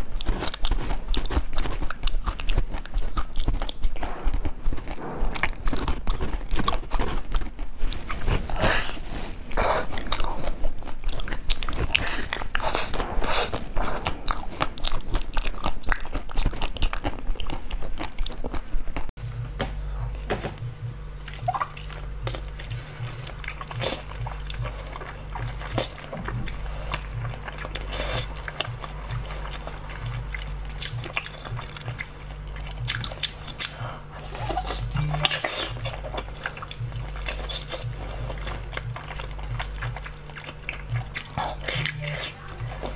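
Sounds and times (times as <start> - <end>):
biting and chewing food: 0.0 - 42.9
low steady hum: 0.0 - 42.9.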